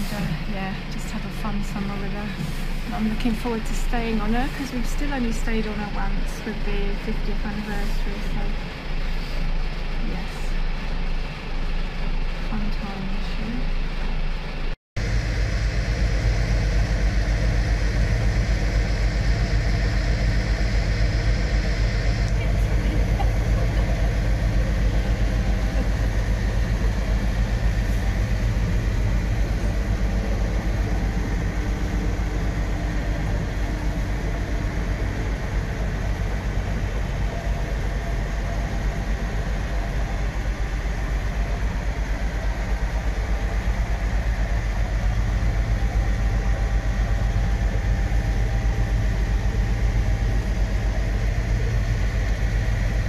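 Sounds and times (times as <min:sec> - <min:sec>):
boat engines droning: 0:00.0 - 0:53.0.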